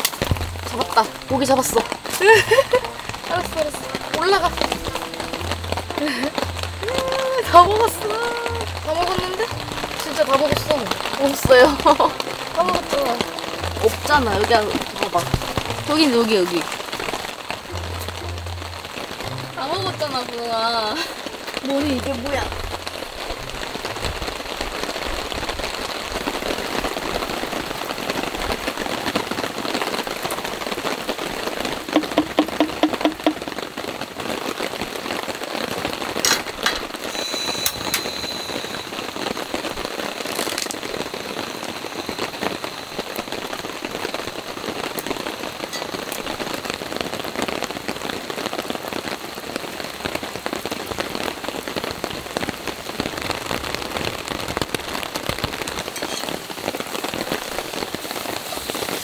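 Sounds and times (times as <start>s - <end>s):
rain pattering on a tarp: 0.0s - 59.0s.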